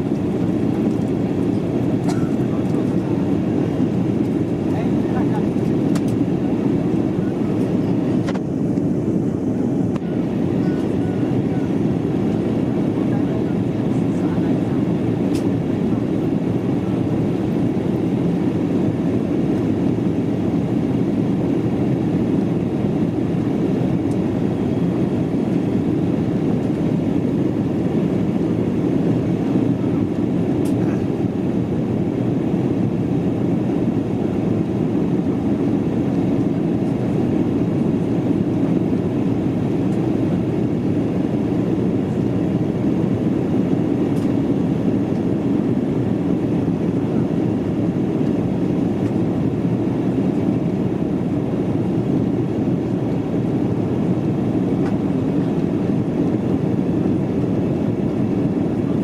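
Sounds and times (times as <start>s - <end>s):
airliner cabin rush: 0.0s - 58.9s.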